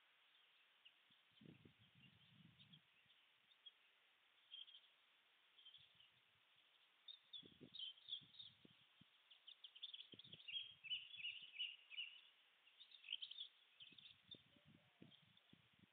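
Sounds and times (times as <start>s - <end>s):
songbirds chirping: 0.0s - 15.9s.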